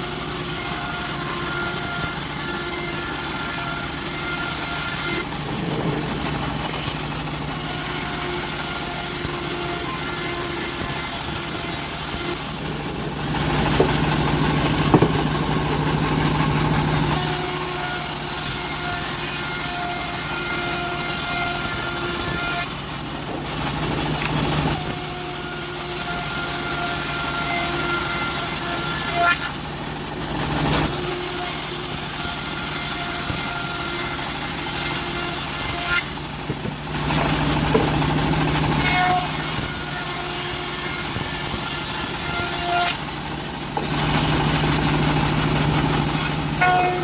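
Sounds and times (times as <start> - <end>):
band sawmill sawing log: 0.0 - 47.0.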